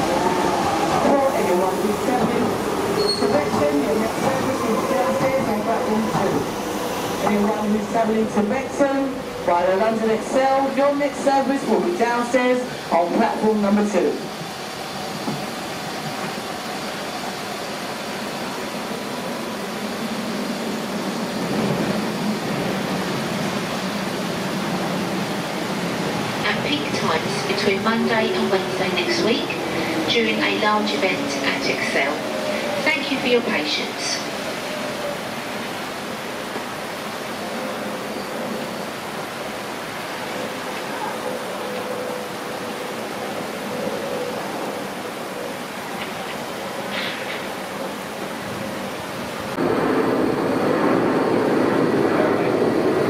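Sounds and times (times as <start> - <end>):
train rumbling along track: 0.0 - 53.0.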